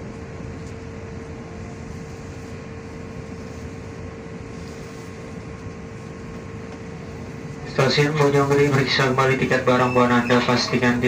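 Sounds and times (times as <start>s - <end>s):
constant hum: 0.0s - 11.0s
train rumble: 0.0s - 11.0s.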